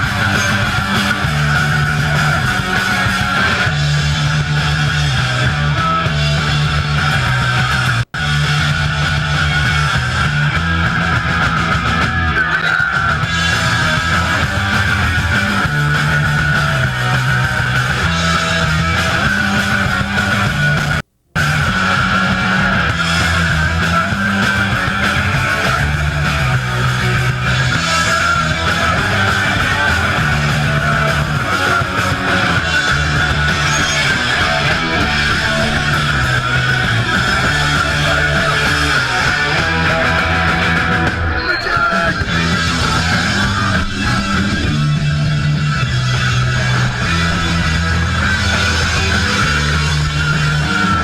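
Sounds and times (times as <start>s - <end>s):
bass riff: 0.0s - 51.0s
distorted electric guitar: 0.0s - 51.0s
drums: 0.0s - 51.0s.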